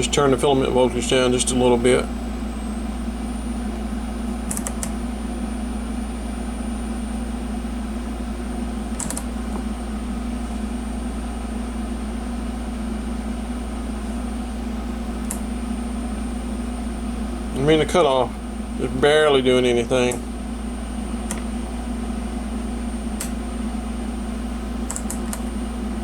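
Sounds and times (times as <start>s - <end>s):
machine hum with high whine: 0.0s - 26.0s.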